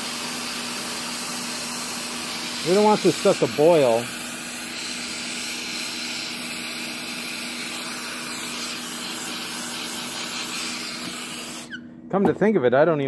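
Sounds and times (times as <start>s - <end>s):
gas torch hissing: 0.0s - 11.8s.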